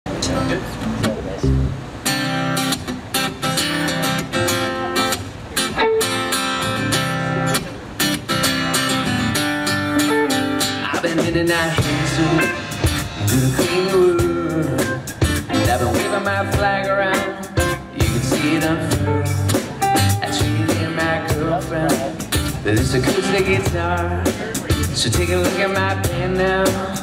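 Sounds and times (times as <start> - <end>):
rock band playing: 1.5 - 27.0.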